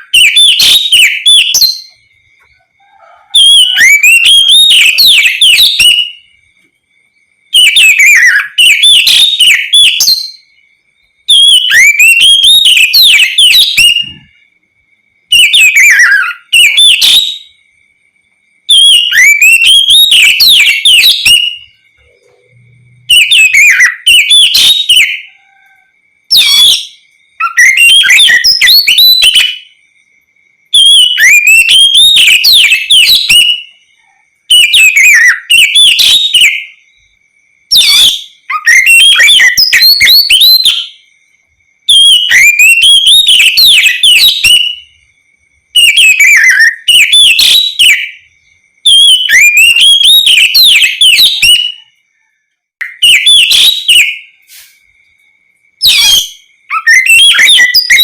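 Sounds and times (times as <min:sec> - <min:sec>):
bird singing whistled notes: 0:00.0 - 0:55.1, 0:55.7 - 0:58.0.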